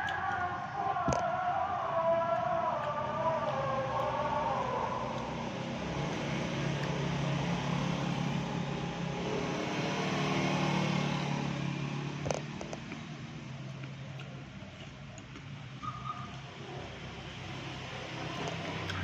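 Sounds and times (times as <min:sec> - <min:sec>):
vehicle engine running: 0:00.0 - 0:15.6.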